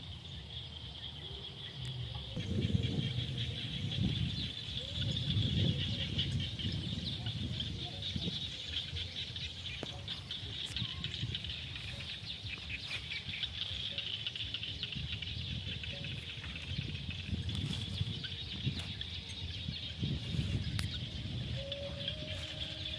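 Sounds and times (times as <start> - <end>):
wind rumble on microphone: 1.8 - 22.9.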